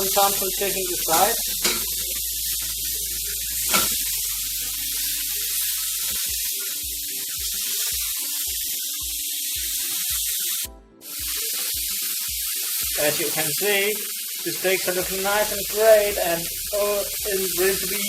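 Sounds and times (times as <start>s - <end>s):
steaks sizzling in a frying pan: 0.0s - 18.0s.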